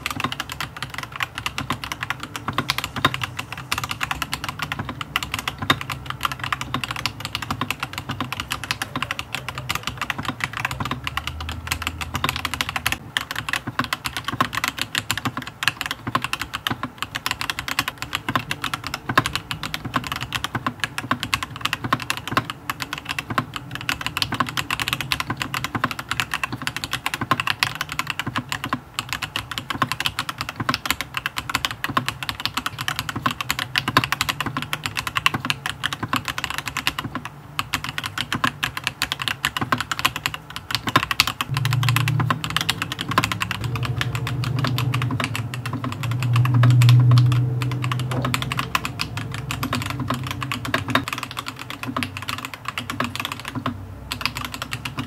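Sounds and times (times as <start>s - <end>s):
fast keyboard typing clacks: 0.0s - 55.0s.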